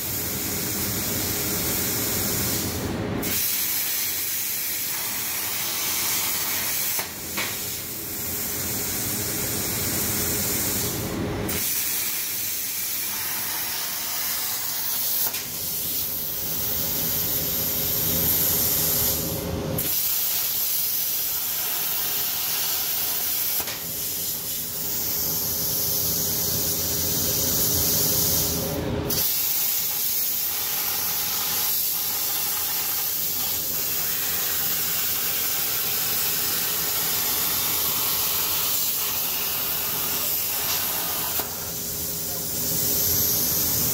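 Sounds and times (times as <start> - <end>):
plasma torch hissing: 0.0 - 43.9.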